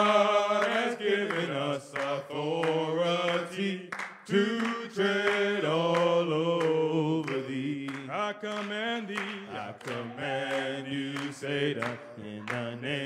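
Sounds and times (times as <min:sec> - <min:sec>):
hand clapping: 0:00.0 - 0:13.0
men singing a cappella gospel: 0:00.0 - 0:13.0.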